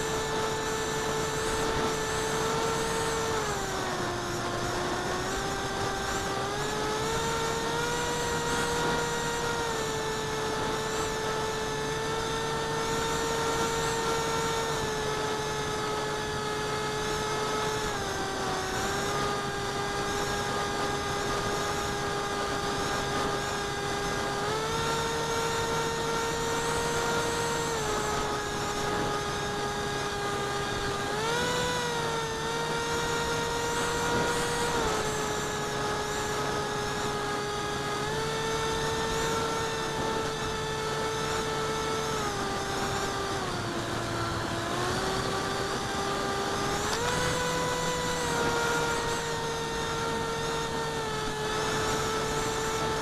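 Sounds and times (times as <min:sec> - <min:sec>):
electric motor and propeller whining: 0:00.0 - 0:53.0.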